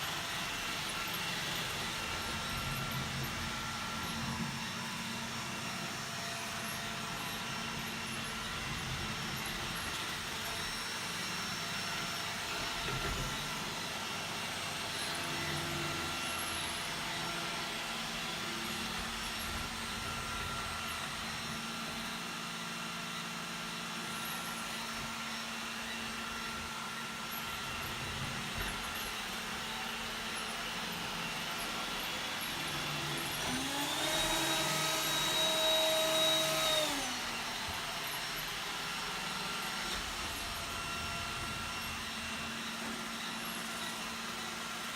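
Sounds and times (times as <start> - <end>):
robot vacuum humming: 0.0 - 44.9.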